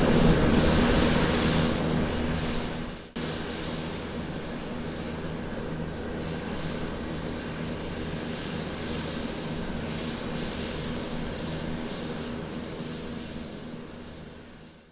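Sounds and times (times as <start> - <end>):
jet engines roaring at takeoff: 0.0 - 14.9.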